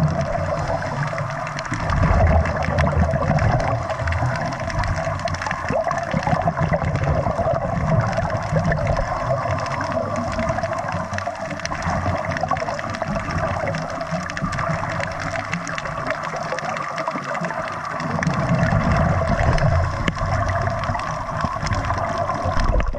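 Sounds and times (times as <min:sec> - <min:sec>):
diver's breath bubbling: 0:00.0 - 0:22.9
muffled underwater noise: 0:00.0 - 0:22.9.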